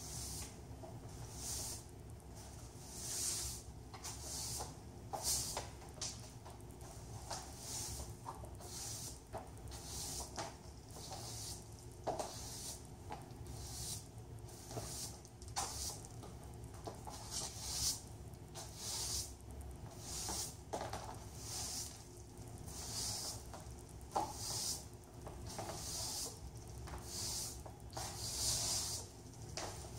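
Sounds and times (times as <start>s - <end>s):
broom sweeping a hard floor: 0.0s - 29.9s.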